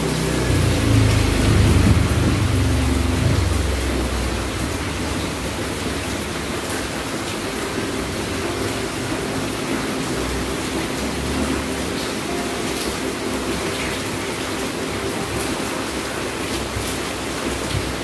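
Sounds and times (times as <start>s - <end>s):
steady rushing hiss: 0.0s - 18.0s.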